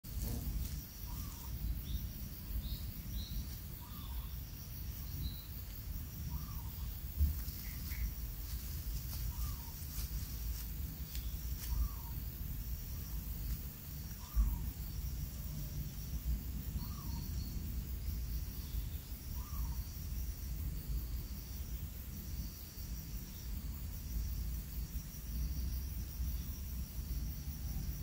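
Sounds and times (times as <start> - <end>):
faint high insect buzz: 0.0 - 28.0.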